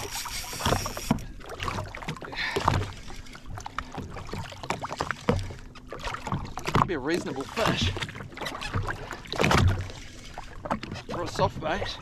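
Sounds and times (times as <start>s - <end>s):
water slapping against a hull: 0.0s - 12.0s.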